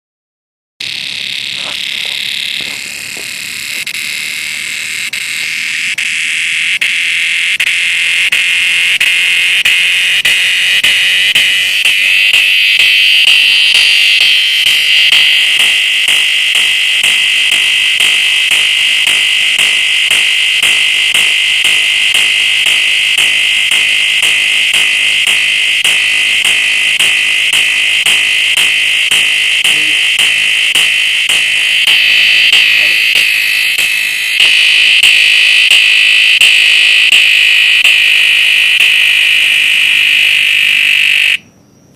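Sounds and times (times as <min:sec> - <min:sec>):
cicada buzzing: 0:00.8 - 0:41.4.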